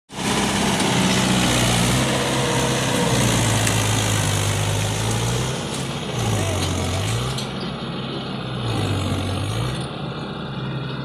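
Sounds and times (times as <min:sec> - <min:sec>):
tractor diesel engine running: 0:00.1 - 0:11.0.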